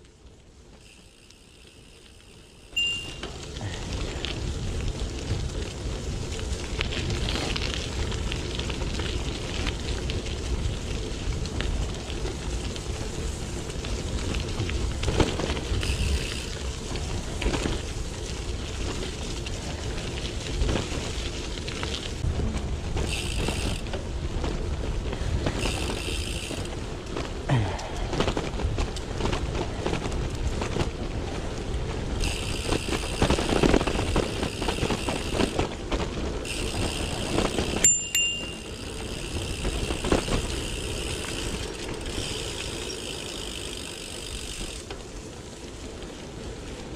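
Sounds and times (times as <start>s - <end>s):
bicycle freewheel buzzing: 0.6s - 24.3s, 25.2s - 27.0s, 31.8s - 45.0s
tyres crunching on gravel: 0.8s - 46.9s.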